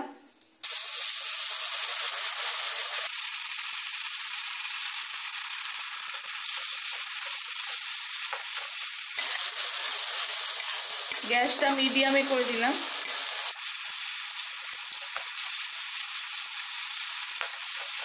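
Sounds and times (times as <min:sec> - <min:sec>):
onion paste sizzling in oil: 0:00.6 - 0:18.0.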